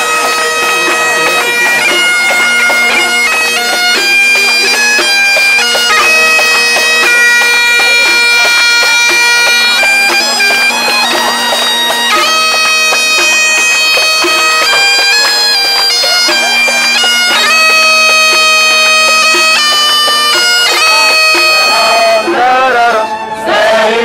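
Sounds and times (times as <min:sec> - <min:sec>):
bagpipe chanter melody: 0:00.0 - 0:24.0
bagpipe drone: 0:00.0 - 0:24.0.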